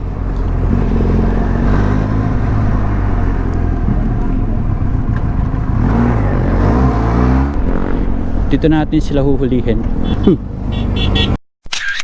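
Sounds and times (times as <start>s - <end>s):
motorcycle engine running: 0.0s - 8.6s, 9.8s - 11.3s.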